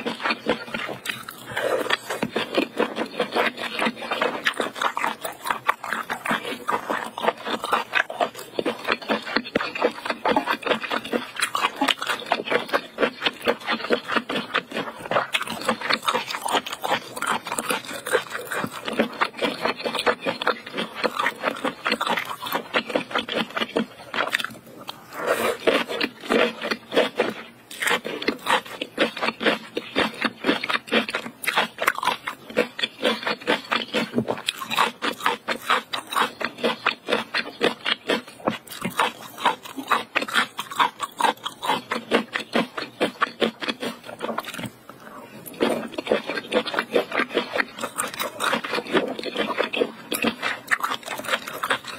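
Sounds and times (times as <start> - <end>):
close chewing with mouth clicks: 0.0 - 51.9.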